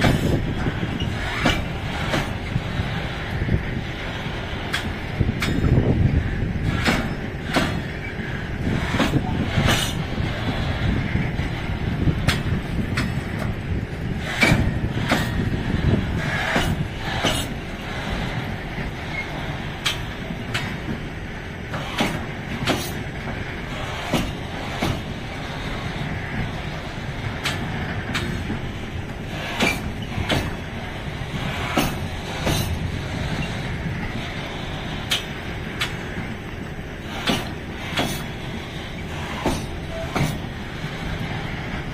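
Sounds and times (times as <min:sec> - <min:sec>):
train wheels rumbling on rails: 0:00.0 - 0:41.9
wheels clacking over rail joints: 0:00.0 - 0:41.9.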